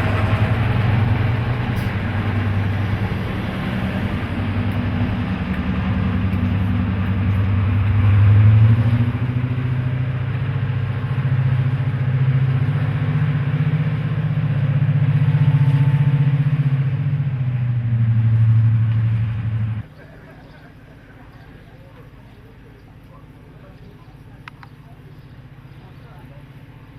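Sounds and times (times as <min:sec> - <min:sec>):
diesel locomotive engine running: 0:00.0 - 0:26.9.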